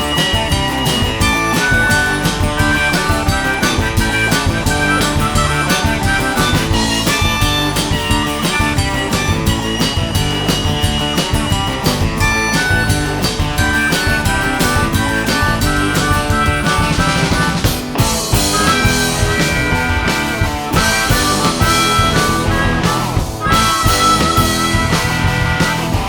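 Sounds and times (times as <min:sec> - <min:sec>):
harmonica long held notes: 0:00.0 - 0:26.0
rock band playing: 0:00.0 - 0:26.0.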